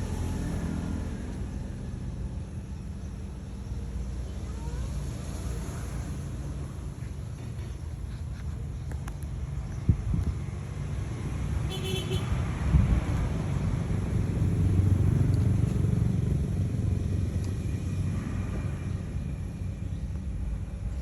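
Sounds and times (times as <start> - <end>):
diesel engine low rumble: 0.0 - 21.0.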